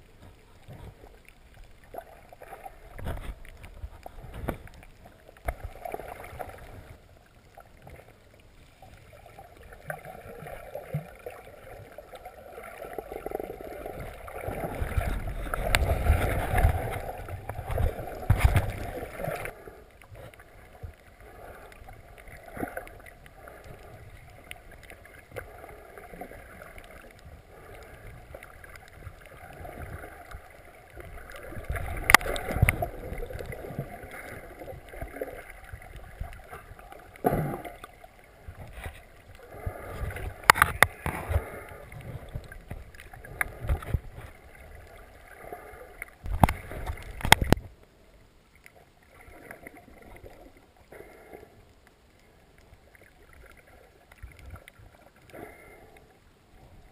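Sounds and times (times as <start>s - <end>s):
muffled water sloshing underwater: 0.0s - 56.9s.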